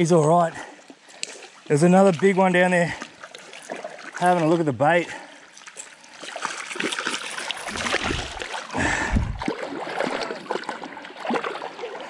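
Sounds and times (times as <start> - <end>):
creek water sloshing and splashing: 0.0 - 12.0.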